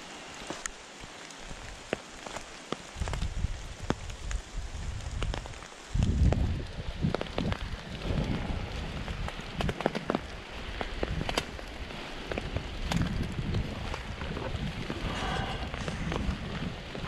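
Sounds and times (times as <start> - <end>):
rain falling: 0.0 - 17.0
raindrops tapping near microphone: 0.0 - 17.0
wind rumble on microphone: 2.8 - 17.0.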